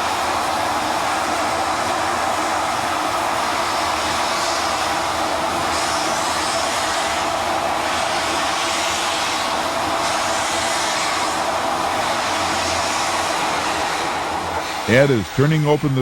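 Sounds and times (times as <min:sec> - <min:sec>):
steam locomotive rushing hiss: 0:00.0 - 0:16.0.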